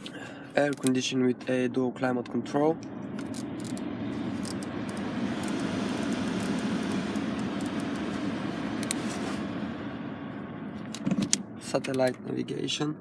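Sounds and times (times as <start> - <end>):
car blower fan running: 0.0 - 12.9.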